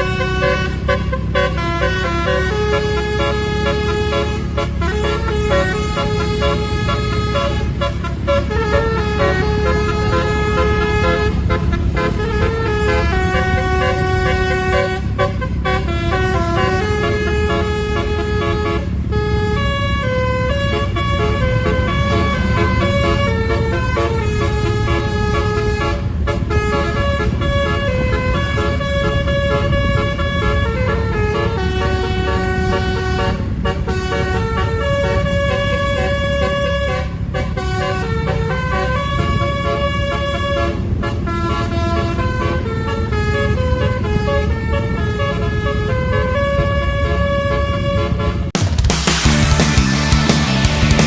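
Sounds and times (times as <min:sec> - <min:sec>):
bus musical horn melody: 0:00.0 - 0:51.0.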